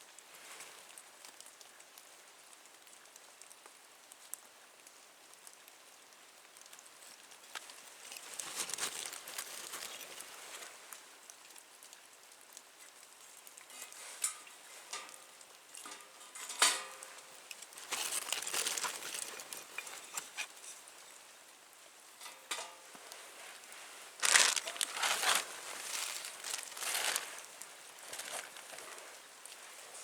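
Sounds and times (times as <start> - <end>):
small wood fire crackling: 0.0 - 30.0.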